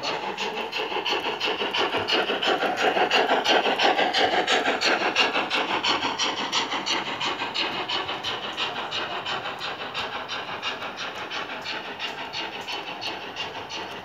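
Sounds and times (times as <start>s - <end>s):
model coaches rolling on track: 0.0s - 14.0s
steam exhaust chuffs: 0.0s - 14.0s.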